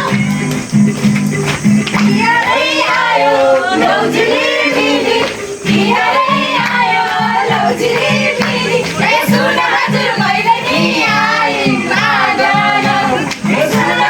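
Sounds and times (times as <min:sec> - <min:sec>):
repeating beat: 0:00.0 - 0:14.0
voices singing together: 0:00.0 - 0:14.0.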